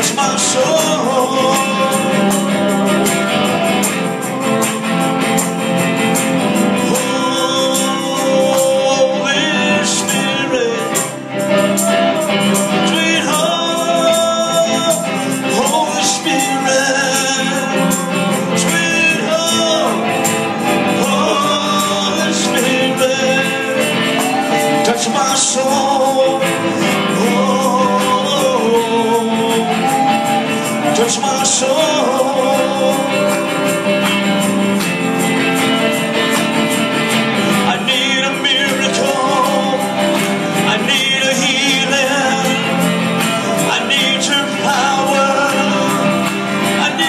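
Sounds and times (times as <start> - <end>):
instrumental backing music: 0.0 - 47.0
person singing: 0.0 - 47.0.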